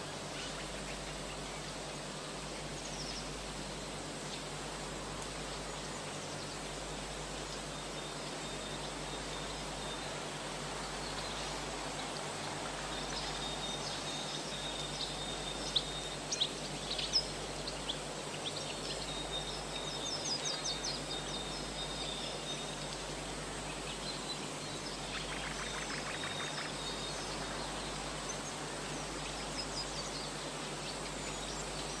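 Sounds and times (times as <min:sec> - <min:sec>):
background hiss: 0:00.0 - 0:32.0.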